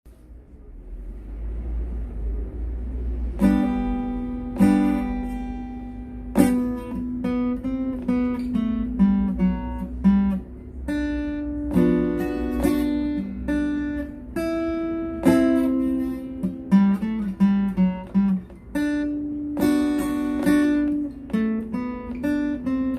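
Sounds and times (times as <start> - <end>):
guitar chords and plucked notes: 3.1 - 22.9.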